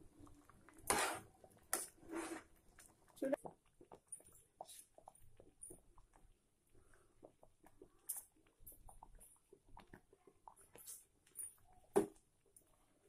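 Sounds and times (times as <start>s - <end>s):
thick liquid bubbling in a pot: 0.0s - 13.0s.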